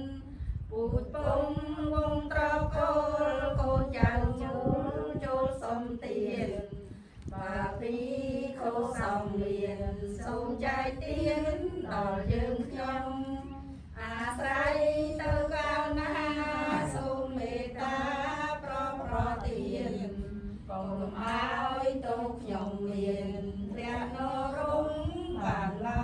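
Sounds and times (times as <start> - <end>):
voices chanting in unison: 0.8 - 26.0.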